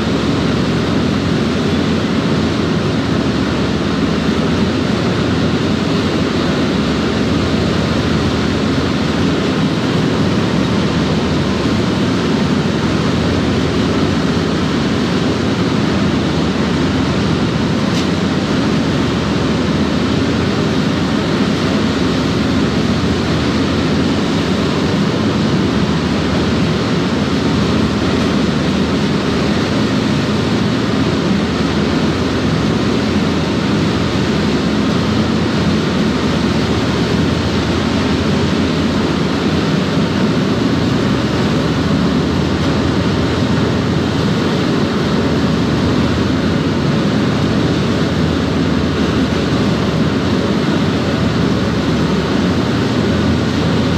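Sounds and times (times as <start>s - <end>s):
churning wake water: 0.0s - 53.9s
ferry waterjet roar: 0.0s - 53.9s.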